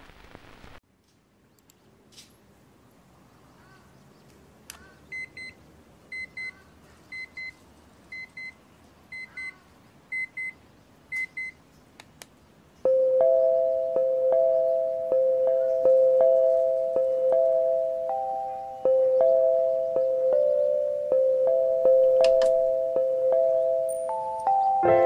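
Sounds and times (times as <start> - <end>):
quiet outdoor background: 0.0 - 25.0.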